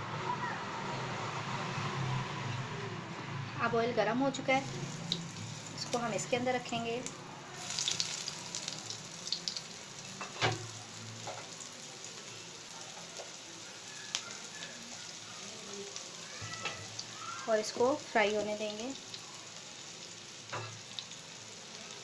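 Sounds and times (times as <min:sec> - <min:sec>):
chicken sizzling in oil: 0:04.4 - 0:22.0.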